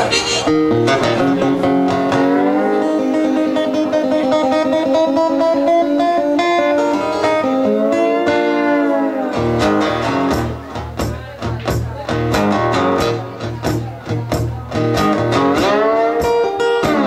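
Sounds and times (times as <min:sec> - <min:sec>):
slide blues guitar: 0:00.0 - 0:17.0.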